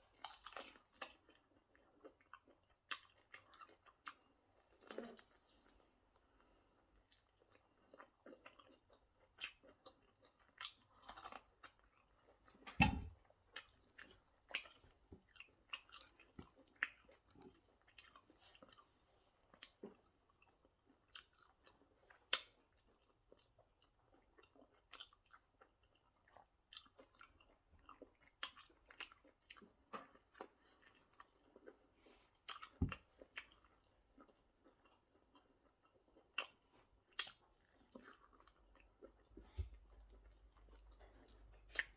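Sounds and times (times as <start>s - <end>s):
chewing with mouth clicks and smacks: 0.0s - 41.9s.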